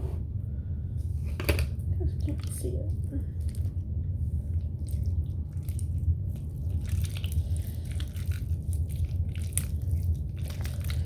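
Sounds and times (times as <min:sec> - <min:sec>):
steady low hum: 0:00.0 - 0:11.0
wet squishing of slime: 0:02.0 - 0:11.0.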